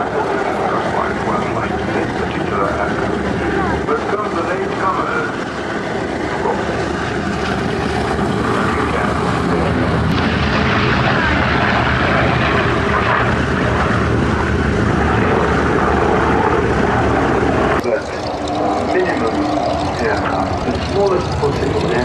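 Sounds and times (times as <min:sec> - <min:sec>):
propeller aircraft engine droning: 0:00.0 - 0:22.0.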